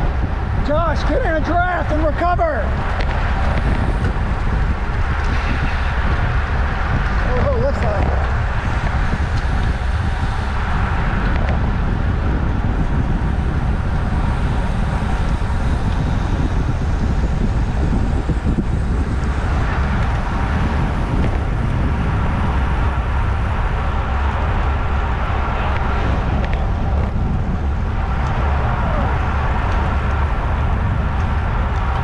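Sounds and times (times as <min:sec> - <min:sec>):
bicycle tyres on asphalt: 0:00.0 - 0:32.0
wind rush on microphone: 0:00.0 - 0:32.0.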